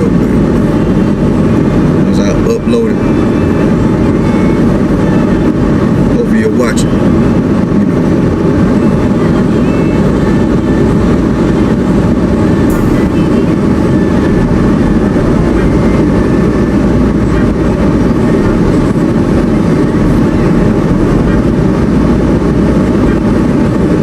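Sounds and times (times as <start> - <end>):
road and engine rumble inside car: 0.0 - 24.0.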